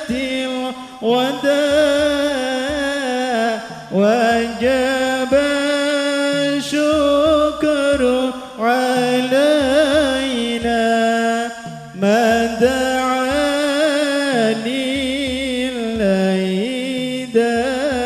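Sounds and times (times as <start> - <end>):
person chanting devotional melody: 0.0 - 18.0.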